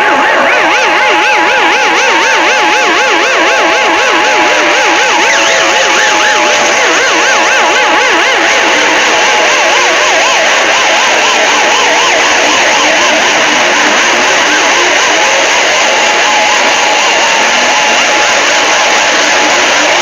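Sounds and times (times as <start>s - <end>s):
warbling alarm siren tones: 0.0s - 20.0s.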